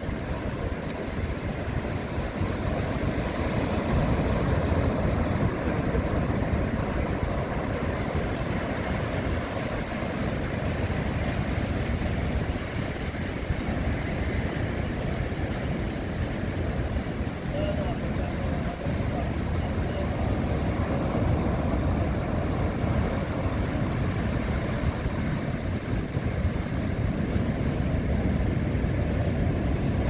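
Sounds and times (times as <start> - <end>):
surf rushing: 0.0 - 30.0
wind buffeting microphone: 0.0 - 30.0.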